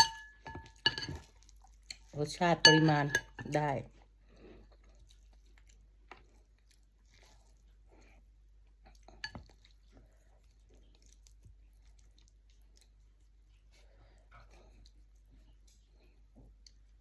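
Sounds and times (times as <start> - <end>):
person chewing food: 0.0 - 2.2, 3.9 - 17.0.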